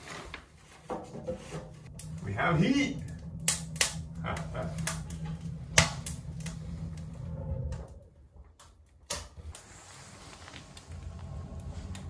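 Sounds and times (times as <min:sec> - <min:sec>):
low steady hum: 0:00.8 - 0:12.0
wood fire crackling and popping: 0:01.4 - 0:12.0.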